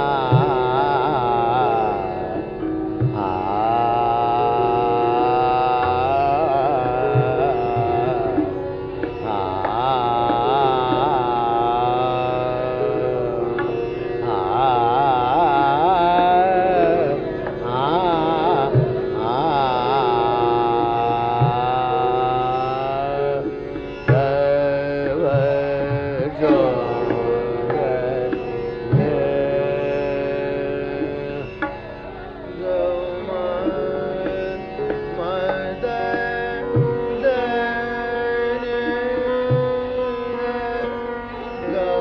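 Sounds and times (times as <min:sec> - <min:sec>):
tabla strokes: 0:00.0 - 0:40.9
man singing ornamented phrases: 0:00.0 - 0:42.0.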